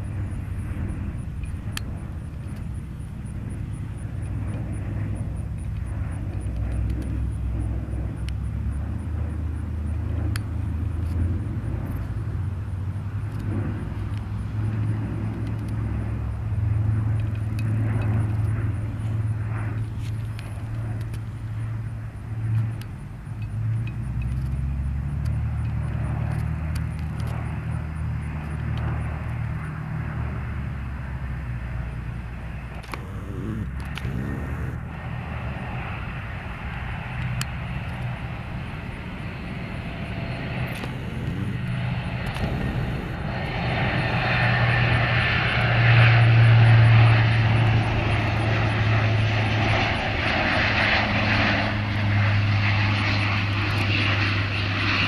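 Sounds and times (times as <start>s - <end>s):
propeller plane flying past: 0.0s - 55.0s.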